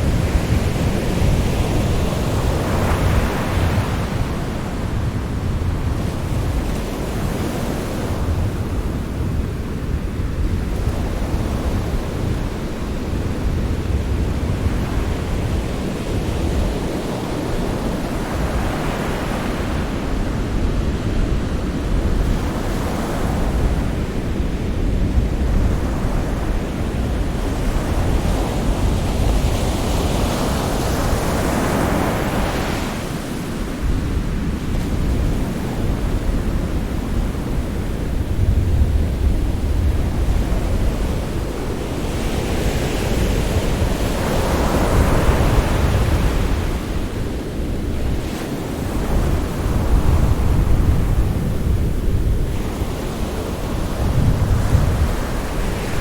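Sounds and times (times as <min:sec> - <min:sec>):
deep rumble of surf: 0:00.0 - 0:56.0.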